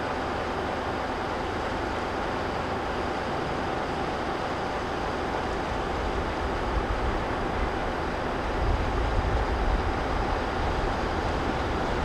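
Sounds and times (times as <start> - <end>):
train rolling slowly: 0.0 - 12.0.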